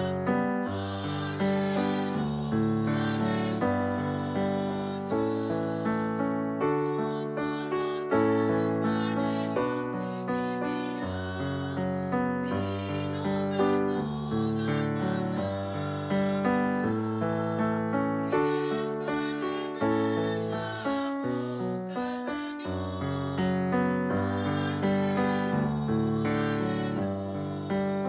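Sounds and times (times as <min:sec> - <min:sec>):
slow piano piece: 0:00.0 - 0:28.0.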